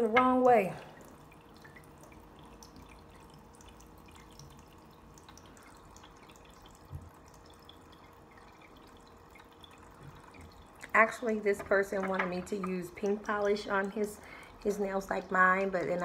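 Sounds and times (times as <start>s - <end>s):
tabletop water fountain trickling: 0.0s - 16.0s.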